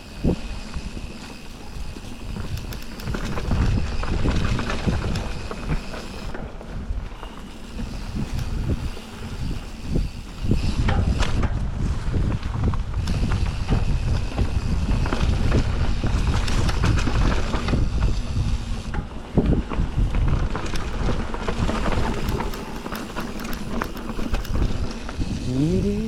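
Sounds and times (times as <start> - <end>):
bike clicks and rattles: 0.0 - 26.0
bike tyres rolling on dirt: 0.0 - 26.0
wind buffeting microphone: 0.0 - 26.0.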